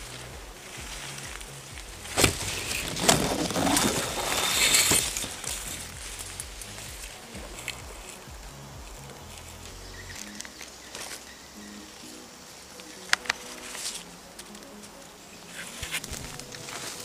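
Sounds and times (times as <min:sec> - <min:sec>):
grass and leaves rustling: 0:00.0 - 0:17.0.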